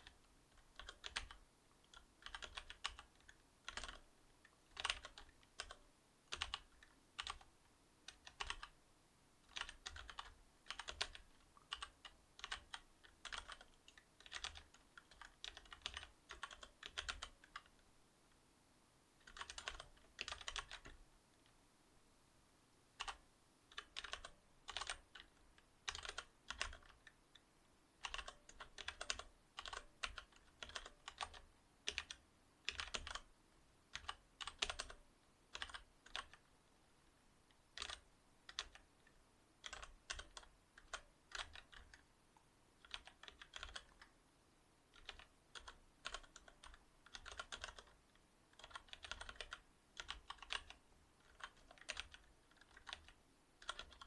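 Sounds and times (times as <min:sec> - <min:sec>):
mechanical keyboard typing: 0:00.0 - 0:07.5, 0:08.1 - 0:08.7, 0:09.5 - 0:17.7, 0:19.2 - 0:21.0, 0:23.0 - 0:27.4, 0:28.0 - 0:33.3, 0:33.9 - 0:36.4, 0:37.8 - 0:38.9, 0:39.6 - 0:42.0, 0:42.8 - 0:44.1, 0:44.9 - 0:54.0.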